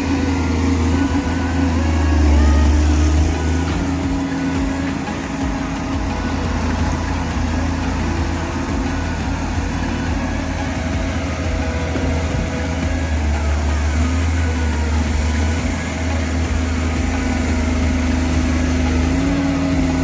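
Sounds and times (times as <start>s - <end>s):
diesel engine running: 0.0s - 20.0s
higher shifting tones: 0.0s - 20.0s.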